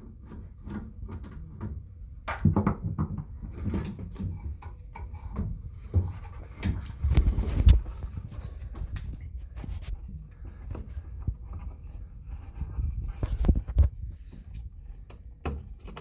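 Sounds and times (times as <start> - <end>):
scraping and knocking plastic: 0.0 - 16.0.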